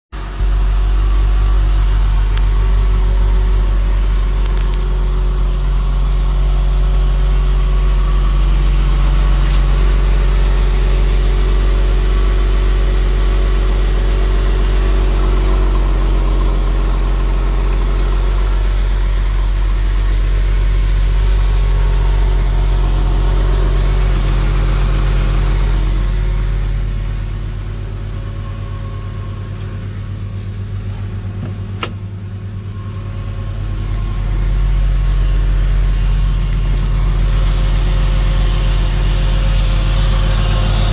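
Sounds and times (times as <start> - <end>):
car engine idling: 0.2 - 40.9.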